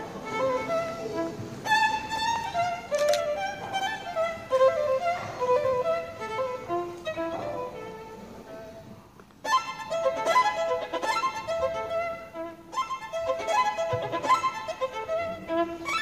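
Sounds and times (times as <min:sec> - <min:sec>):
violin playing: 0:00.0 - 0:16.0.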